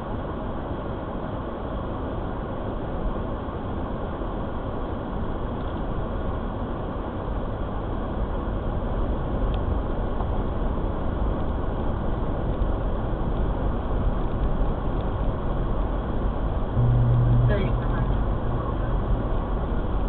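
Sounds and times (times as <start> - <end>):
car road noise and engine rumble: 0.0 - 20.0.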